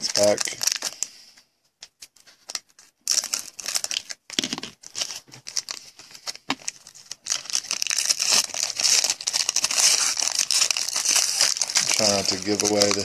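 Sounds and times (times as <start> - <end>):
foil wrapper tearing and crinkling: 0.0 - 1.1, 2.0 - 13.0.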